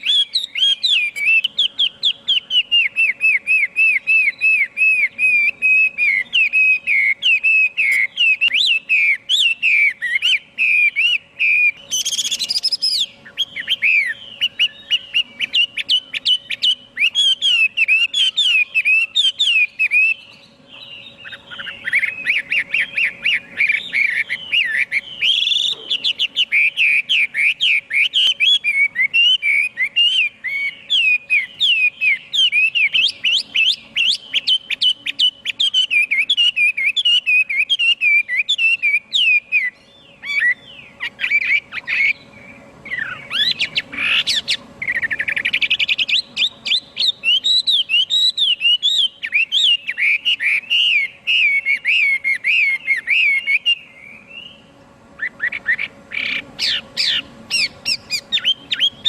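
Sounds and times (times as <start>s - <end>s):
songbird singing whistled notes: 0.0s - 59.0s.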